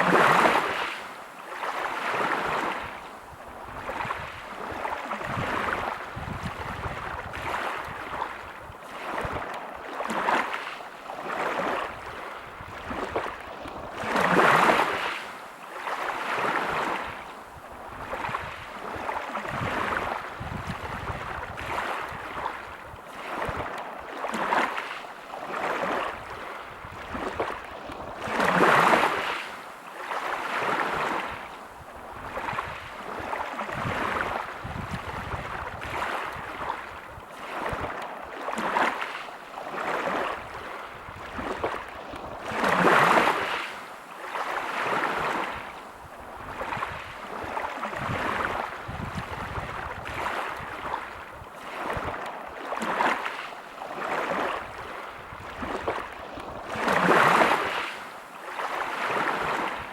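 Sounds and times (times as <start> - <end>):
waves breaking on pebble beach: 0.0 - 3.0, 3.8 - 17.2, 18.0 - 31.4, 32.2 - 59.9.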